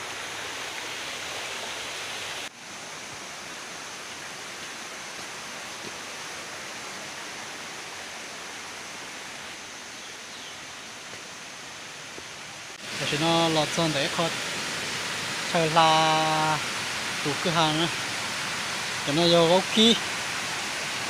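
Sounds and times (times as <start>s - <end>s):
forest stream rushing: 0.0s - 21.0s
rainforest ambience hiss: 0.0s - 21.0s.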